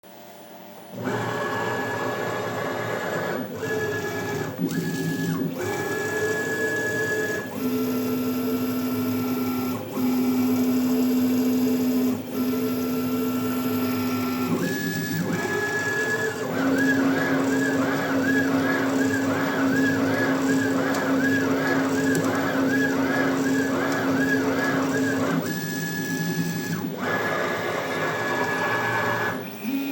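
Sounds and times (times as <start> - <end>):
stepper motors whining: 3.7 - 29.9.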